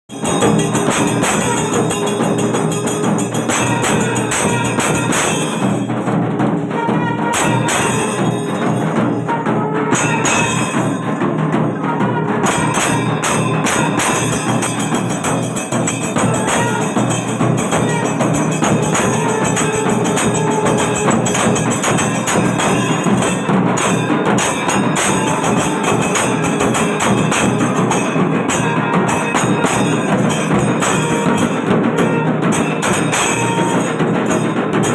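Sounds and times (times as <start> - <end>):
percussion ensemble playing: 0.1 - 34.9.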